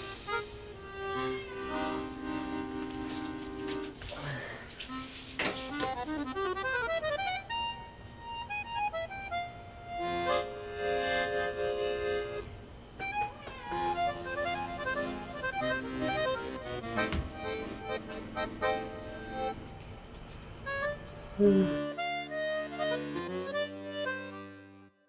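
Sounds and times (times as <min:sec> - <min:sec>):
solo accordion melody: 0:00.0 - 0:04.1, 0:04.9 - 0:19.8, 0:20.7 - 0:25.0.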